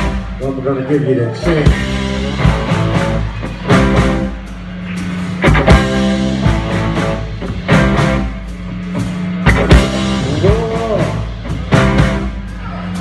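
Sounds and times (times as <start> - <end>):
rock band playing: 0.0 - 13.0
steady bass line: 0.0 - 13.0
heavy band hits: 1.4 - 13.0.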